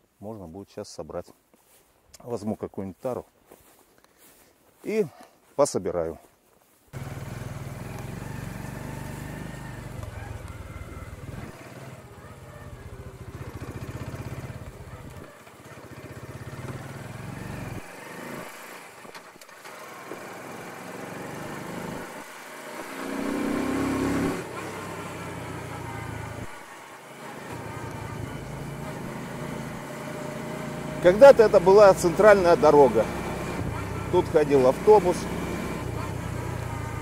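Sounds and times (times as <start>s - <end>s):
motorcycle engine running: 7.0s - 37.0s.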